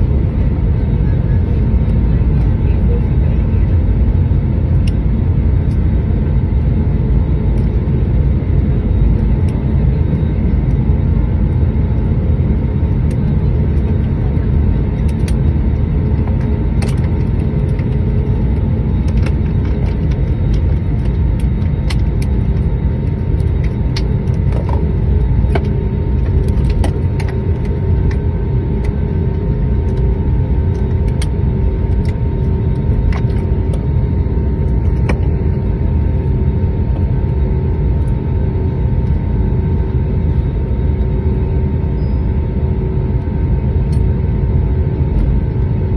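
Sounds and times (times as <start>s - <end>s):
engines and rolling wheels rumble: 0.0s - 45.8s
faint steady whine: 0.0s - 45.9s.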